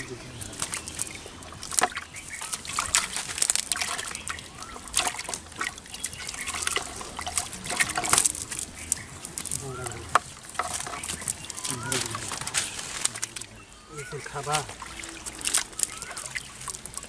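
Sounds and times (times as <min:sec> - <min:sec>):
fish flapping on mud: 0:00.0 - 0:17.0
water dripping: 0:00.0 - 0:17.0
wet net shaken out: 0:00.5 - 0:13.5, 0:14.5 - 0:17.0.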